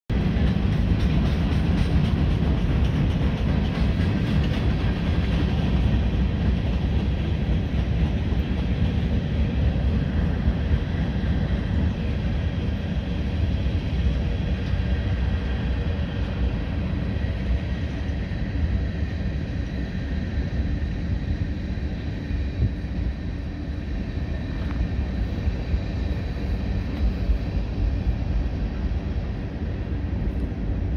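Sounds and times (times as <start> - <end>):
freight train wheels on rails: 0.1 - 30.9.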